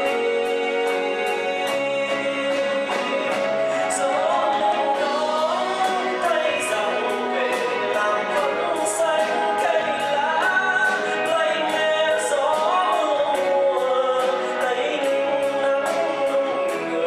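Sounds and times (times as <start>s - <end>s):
live band playing a ballad: 0.0s - 17.0s
man singing: 0.0s - 17.0s.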